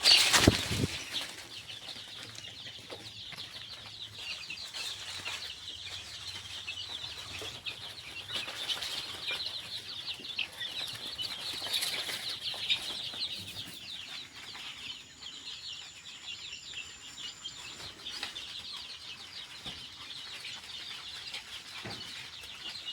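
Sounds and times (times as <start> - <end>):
chicks peeping: 0.0 - 22.9.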